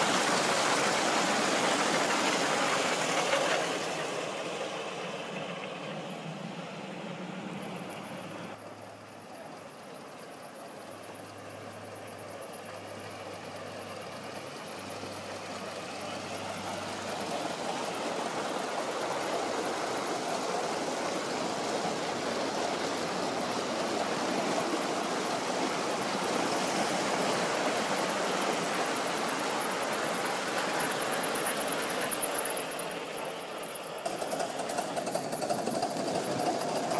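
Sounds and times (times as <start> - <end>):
steam locomotive rushing: 0.0 - 36.9.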